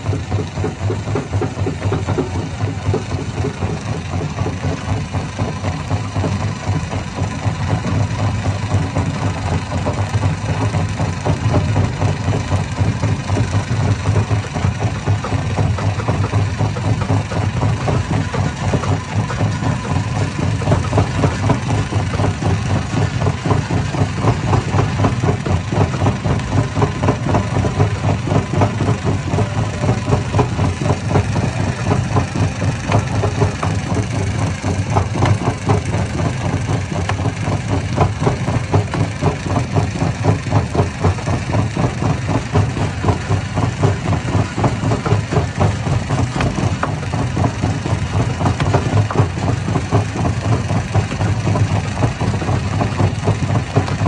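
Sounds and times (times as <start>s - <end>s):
rapid knocking: 0.0s - 54.0s
stone crusher machine drone: 0.0s - 54.0s.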